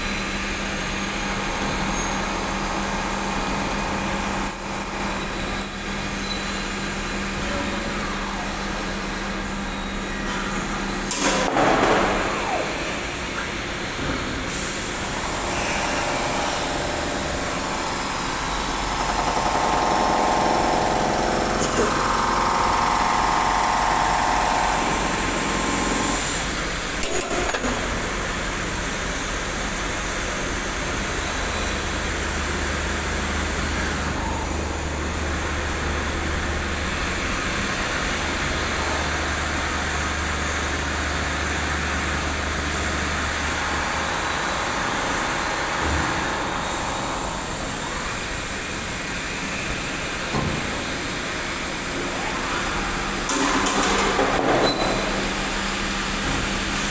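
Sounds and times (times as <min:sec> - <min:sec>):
machine running: 0:00.0 - 0:56.9.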